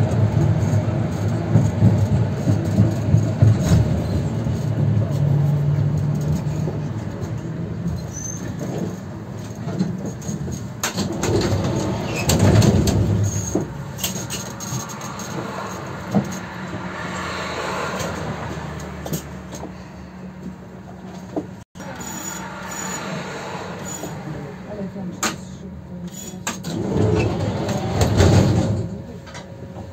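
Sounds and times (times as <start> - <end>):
tram wheels rumbling on rails: 0.0 - 29.9.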